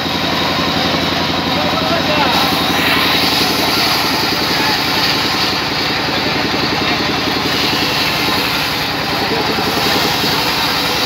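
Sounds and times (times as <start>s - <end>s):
band saw cutting log: 0.0s - 11.0s
sawmill engine running: 0.0s - 11.0s.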